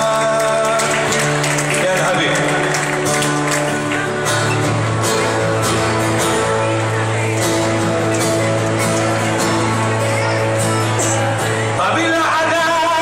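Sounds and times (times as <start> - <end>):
amplified acoustic guitar strumming: 0.0 - 13.0.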